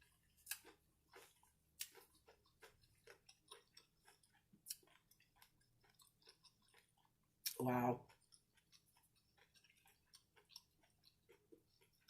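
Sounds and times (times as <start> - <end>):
chewing fried seafood: 0.0 - 12.0.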